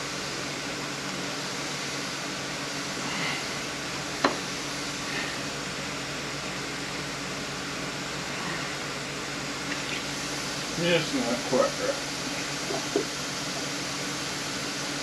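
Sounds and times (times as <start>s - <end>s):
fan-like room hum: 0.0s - 15.0s.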